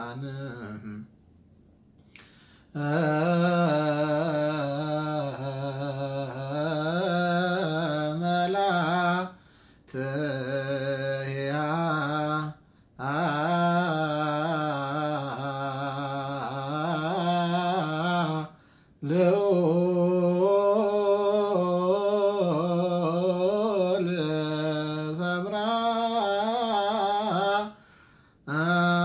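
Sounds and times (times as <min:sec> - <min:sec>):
man chanting a hymn: 0:00.0 - 0:01.1, 0:02.7 - 0:29.0.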